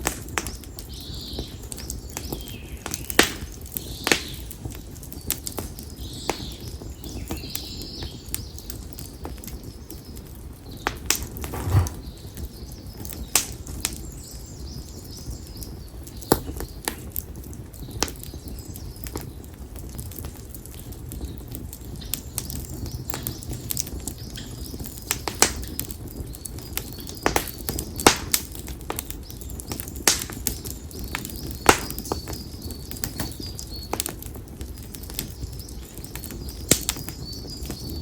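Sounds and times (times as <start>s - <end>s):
campfire crackling and popping: 0.0s - 12.2s, 13.2s - 38.0s.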